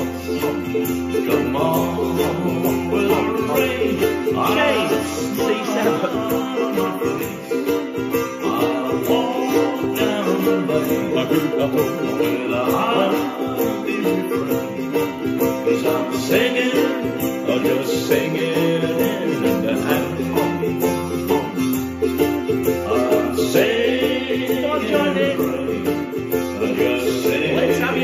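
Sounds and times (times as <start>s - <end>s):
accompanying music: 0.0s - 28.0s
ukulele strumming: 0.0s - 28.0s.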